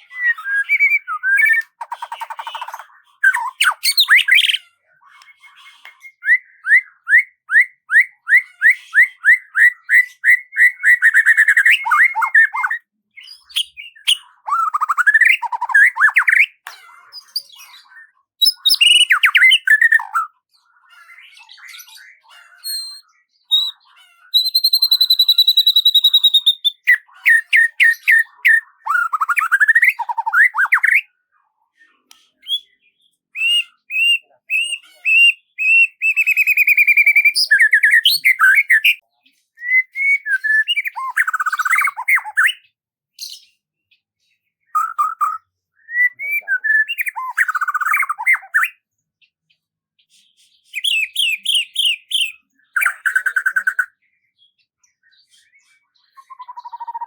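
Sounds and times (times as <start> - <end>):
songbird singing: 0.0 - 31.1, 31.9 - 44.0, 44.7 - 49.6, 50.7 - 57.0.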